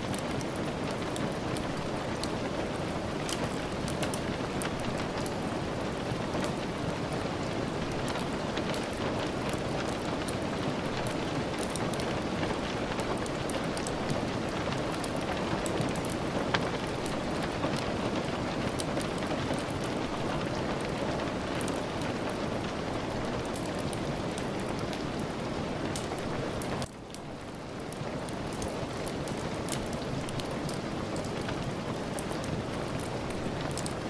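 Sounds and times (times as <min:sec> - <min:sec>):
steady rain: 0:00.0 - 0:34.0
wood fire crackling: 0:00.0 - 0:34.0.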